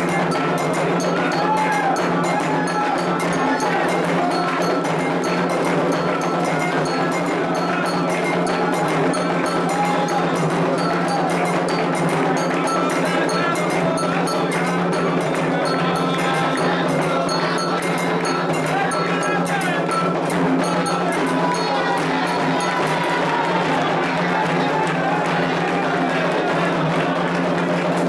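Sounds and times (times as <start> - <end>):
clanging bell: 0.0 - 24.6
hand drums playing fast rhythm: 0.0 - 28.0
voices singing: 0.0 - 28.0.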